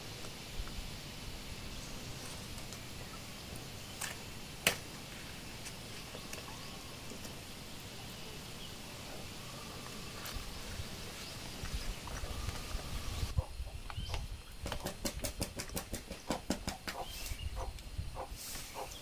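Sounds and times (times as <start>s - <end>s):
outdoor background: 0.0s - 19.0s.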